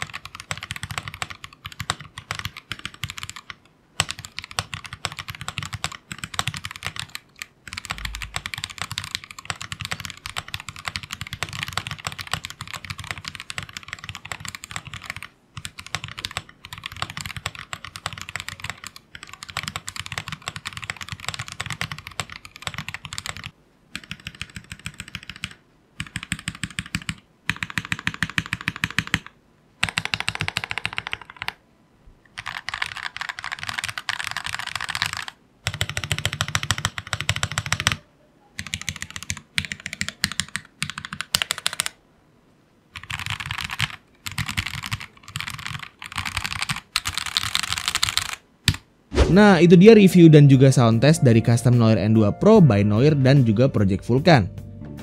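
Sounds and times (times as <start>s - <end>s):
mechanical keyboard typing: 0.0s - 31.6s, 32.4s - 38.0s, 38.6s - 42.0s, 43.0s - 48.8s.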